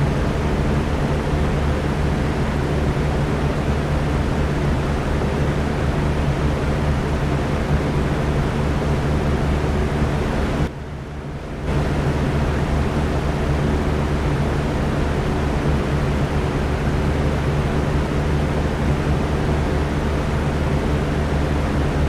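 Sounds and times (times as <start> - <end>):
electric fan whooshing: 0.0 - 22.0.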